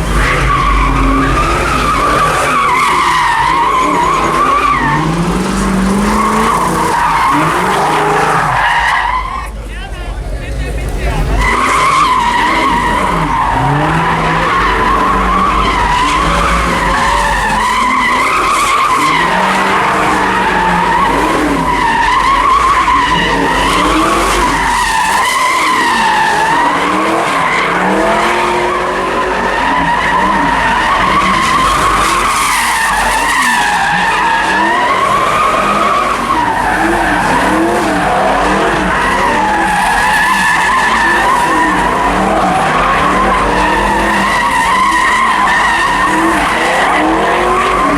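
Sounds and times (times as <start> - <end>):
car engine revving: 0.0 - 47.9
car tyres squealing: 0.0 - 47.9.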